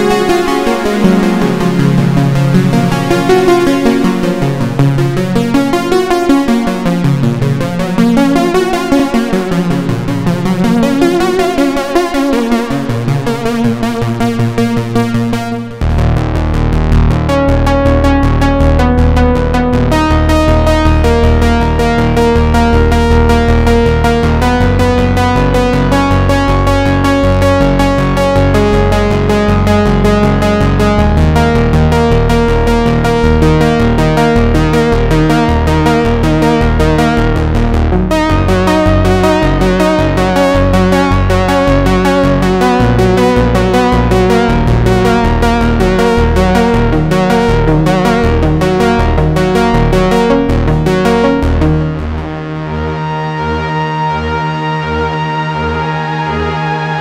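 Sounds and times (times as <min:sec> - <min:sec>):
synthesizer bass line: 0:00.0 - 0:57.0
synthesizer chords: 0:00.0 - 0:57.0.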